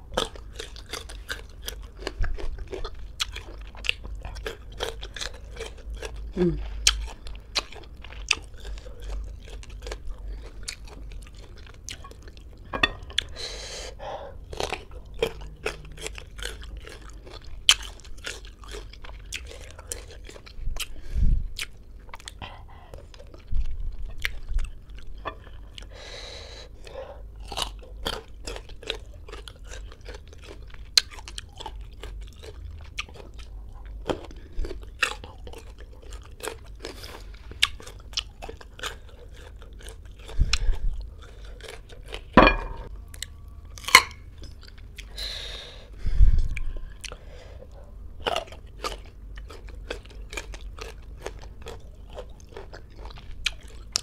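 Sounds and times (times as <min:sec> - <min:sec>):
crunchy fruit chewing: 0:00.0 - 0:45.8, 0:46.4 - 0:54.0.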